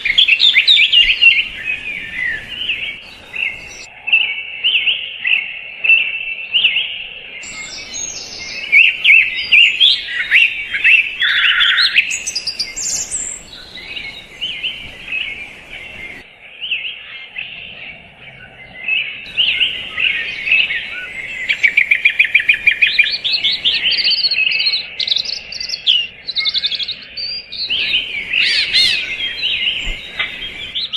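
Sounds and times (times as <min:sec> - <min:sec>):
songbirds chorus: 0:00.0 - 0:30.9.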